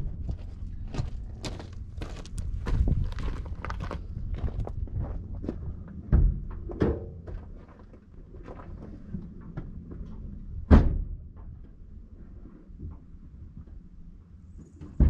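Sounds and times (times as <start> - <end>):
vehicle rumbling over rocky track: 0.0 - 12.9.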